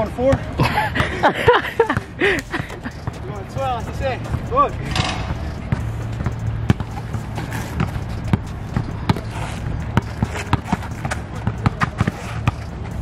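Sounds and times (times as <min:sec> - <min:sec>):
basketball bouncing on court: 0:00.2 - 0:01.2, 0:01.8 - 0:03.3, 0:04.2 - 0:13.0.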